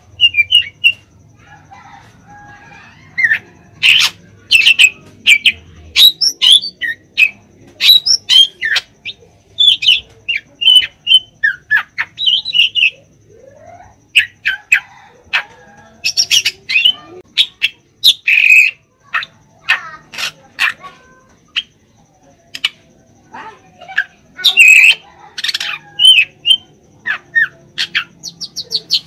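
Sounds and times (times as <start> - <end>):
bird chirps whistles and squawks: 0.0 - 1.1, 2.6 - 15.5, 16.1 - 20.8, 24.0 - 29.0.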